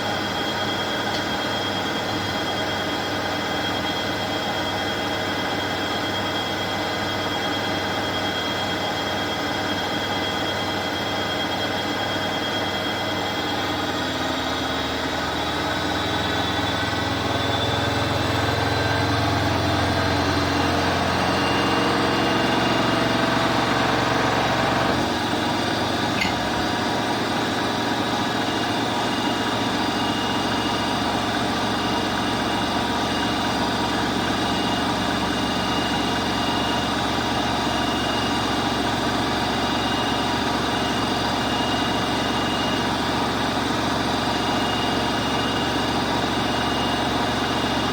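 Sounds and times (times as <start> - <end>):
washing machine humming and whining: 0.0 - 47.9.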